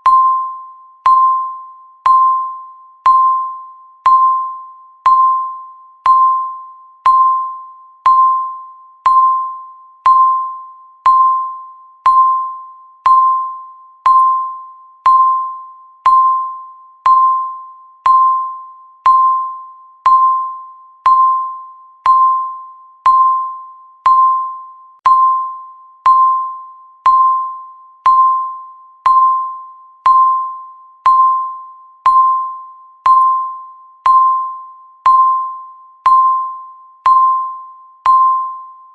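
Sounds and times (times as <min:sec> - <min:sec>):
timer ticking with ringing tone: 0:00.0 - 0:38.9.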